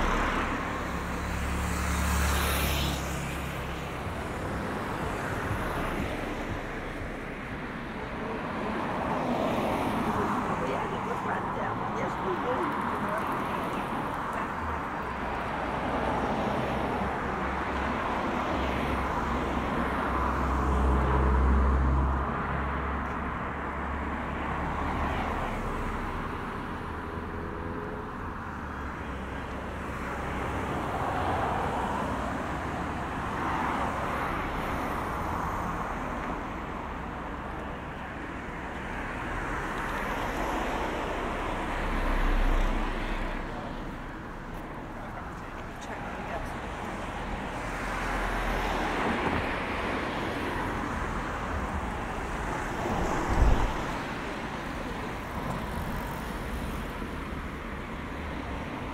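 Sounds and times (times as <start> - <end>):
cars passing: 0.0 - 58.9.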